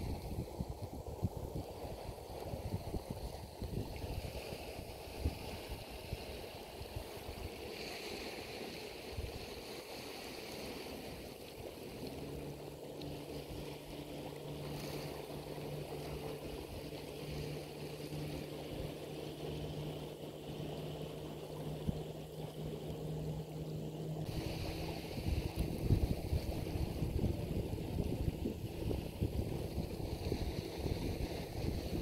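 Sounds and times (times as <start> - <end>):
water moving among rocks: 0.0 - 23.2, 24.2 - 32.0
steady low hum: 0.0 - 32.0
wind on microphone: 0.0 - 32.0.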